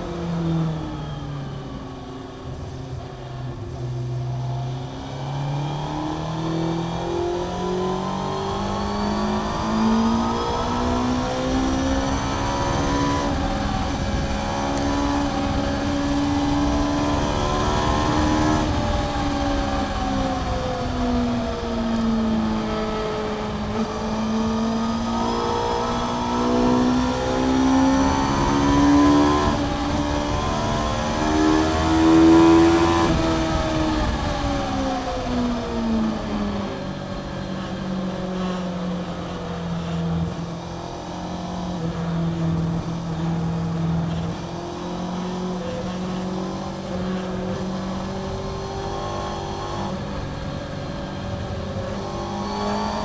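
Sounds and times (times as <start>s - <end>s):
motorcycle engine at speed: 0.0s - 53.0s.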